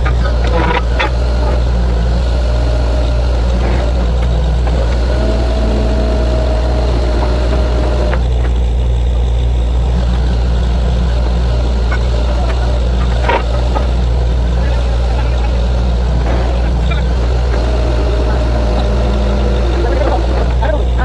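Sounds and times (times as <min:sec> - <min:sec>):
diesel engine droning: 0:00.0 - 0:21.0
thin whine: 0:00.0 - 0:21.0.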